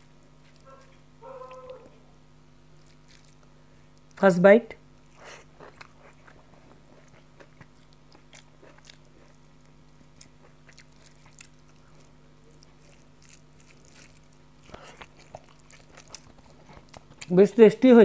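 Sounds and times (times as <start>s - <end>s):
person chewing: 0.4s - 2.0s, 2.8s - 4.2s, 4.9s - 17.3s.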